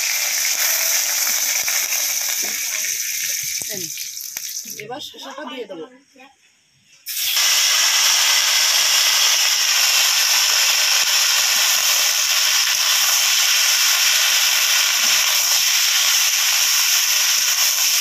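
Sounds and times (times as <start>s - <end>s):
cucumber sizzling in hot oil: 0.0s - 4.8s, 7.0s - 18.0s.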